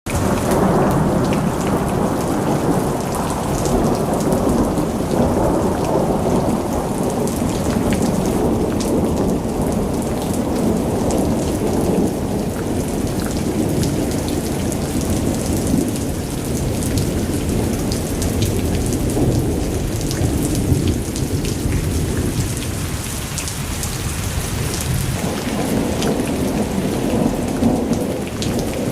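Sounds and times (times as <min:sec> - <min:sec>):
rain pattering on surfaces: 0:00.1 - 0:28.9
rolling thunder: 0:00.1 - 0:28.9.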